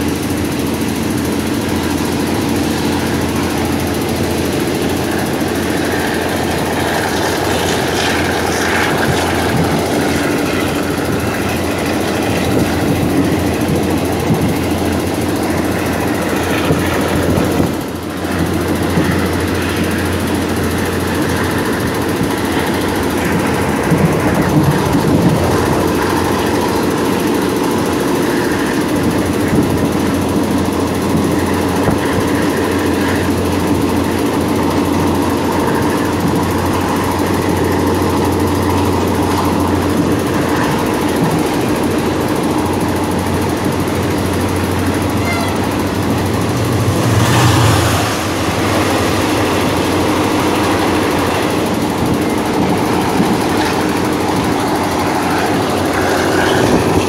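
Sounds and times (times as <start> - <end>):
constant low hum: 0.0 - 57.0
train wheels on rails: 0.0 - 57.0.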